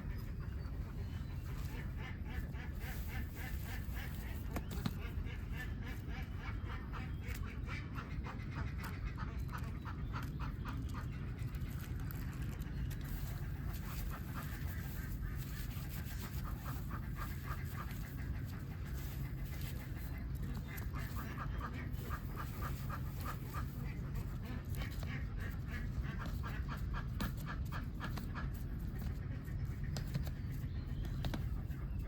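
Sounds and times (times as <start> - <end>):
ducks quacking: 0.0 - 32.0
steady low rumble: 0.0 - 32.0.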